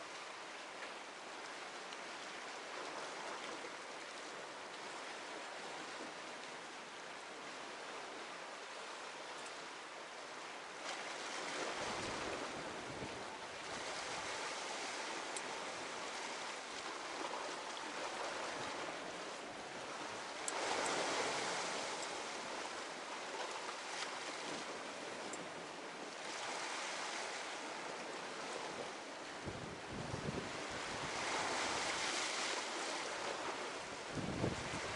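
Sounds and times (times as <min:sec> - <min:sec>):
sea waves washing on rocks: 0:00.0 - 0:34.9.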